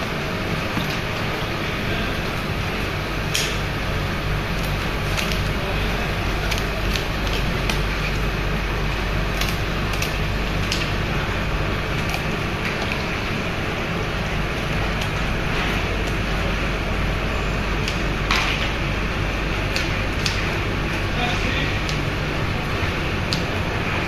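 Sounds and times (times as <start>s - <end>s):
room machinery drone: 0.0s - 24.0s.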